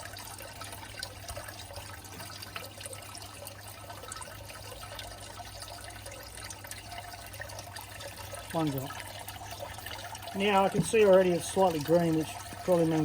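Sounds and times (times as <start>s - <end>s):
faint trickling water: 0.0s - 13.0s.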